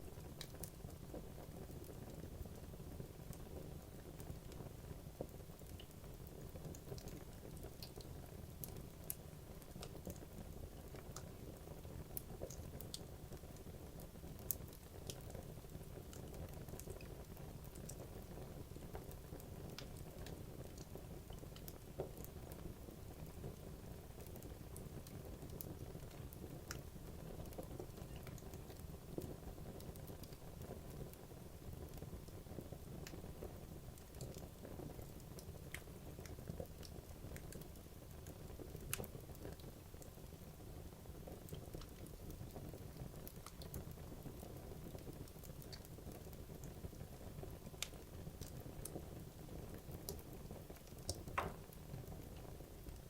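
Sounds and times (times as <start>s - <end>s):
fire burning with crackles: 0.0s - 53.0s.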